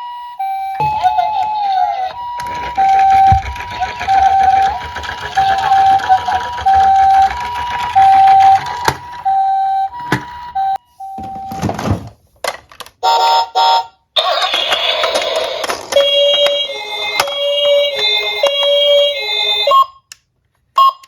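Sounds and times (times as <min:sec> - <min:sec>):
two-tone toy siren: 0:00.0 - 0:11.6, 0:13.0 - 0:20.1.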